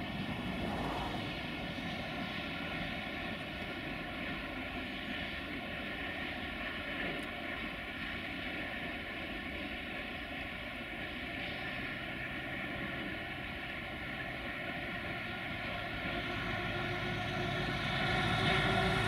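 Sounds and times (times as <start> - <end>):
distant diesel locomotive engines: 0.0 - 19.0.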